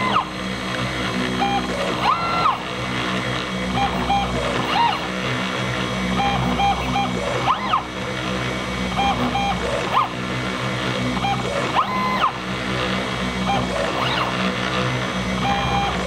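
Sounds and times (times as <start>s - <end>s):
low hum from cutting: 0.0s - 16.0s
stepper motors whining: 0.0s - 16.0s.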